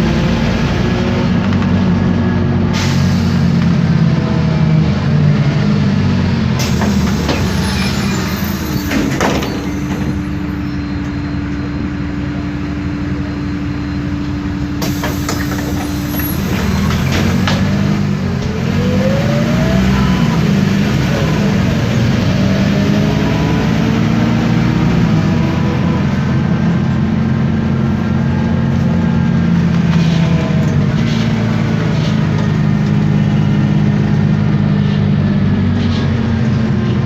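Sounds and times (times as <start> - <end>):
bus engine droning: 0.0 - 37.0
gearbox and driveline whine: 3.5 - 37.0.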